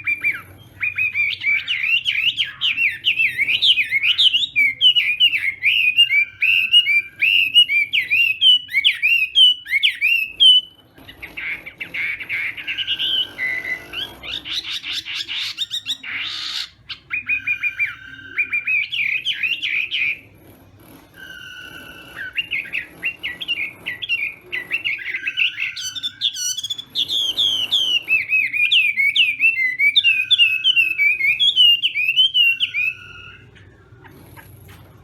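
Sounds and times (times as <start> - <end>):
songbird whistled song: 0.0 - 20.2, 21.2 - 34.2.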